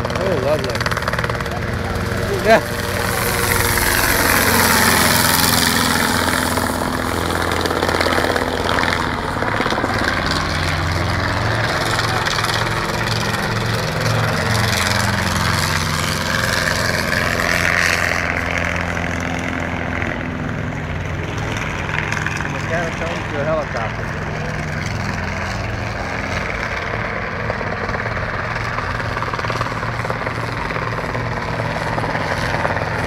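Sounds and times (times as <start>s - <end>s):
helicopter engine and rotor droning: 0.0s - 33.0s.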